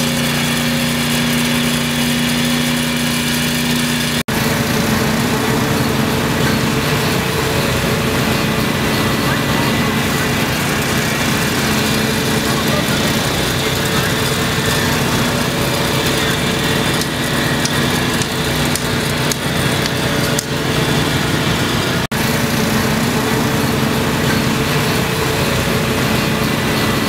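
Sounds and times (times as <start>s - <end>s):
machine hums: 0.0s - 27.0s
printing press running: 0.0s - 27.0s.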